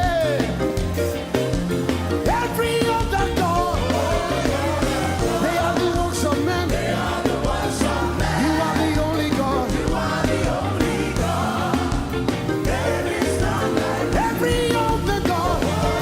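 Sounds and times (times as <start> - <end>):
gospel band playing: 0.0 - 16.0.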